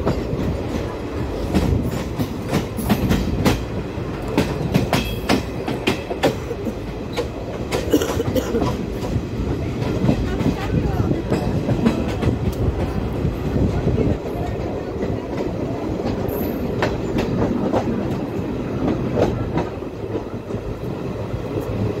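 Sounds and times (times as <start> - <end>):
train wheels rumbling on track: 0.0 - 22.0
wheels clacking over rail joints: 0.0 - 22.0.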